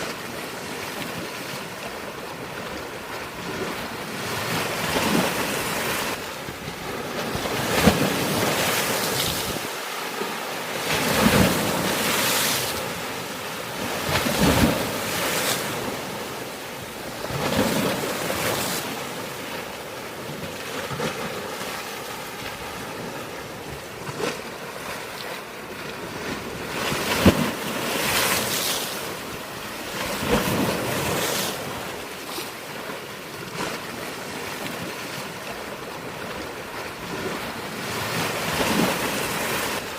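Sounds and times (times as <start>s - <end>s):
waves crashing on rocky shore: 0.0s - 39.9s.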